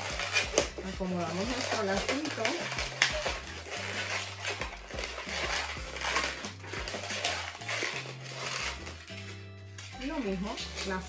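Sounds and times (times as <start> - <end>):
balloons squeaking and rubbing: 0.0 - 11.0
soft background music: 0.0 - 11.0.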